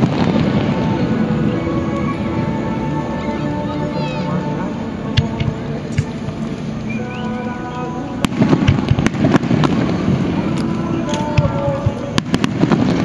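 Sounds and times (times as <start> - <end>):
fireworks bursting with bangs: 0.0 - 3.6, 4.9 - 13.0
fireworks crackling: 0.0 - 13.0.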